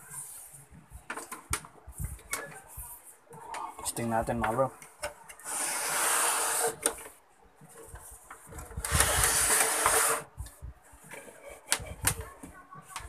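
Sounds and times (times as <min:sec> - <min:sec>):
rubbing and rustling noise: 0:00.0 - 0:13.0.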